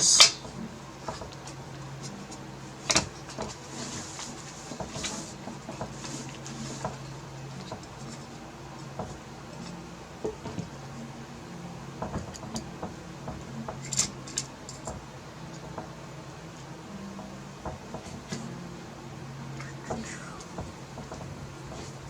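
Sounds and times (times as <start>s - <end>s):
steady low hum: 0.0s - 22.0s
clicks of parts being fitted: 0.1s - 22.0s.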